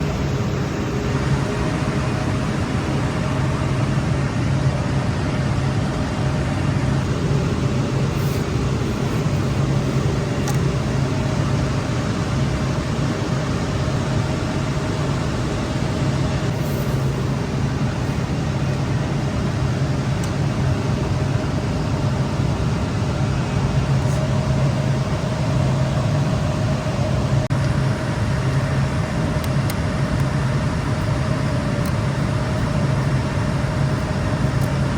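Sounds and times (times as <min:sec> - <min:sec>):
equipment cooling fans whirring: 0:00.0 - 0:34.9.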